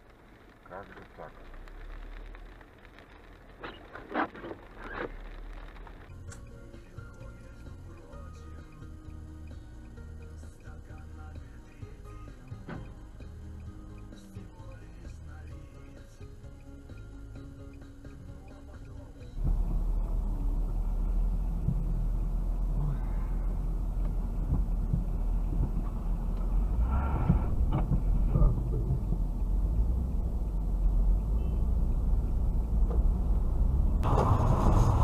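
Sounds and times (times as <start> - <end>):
low vehicle rumble: 0.0 - 15.7, 16.7 - 35.0.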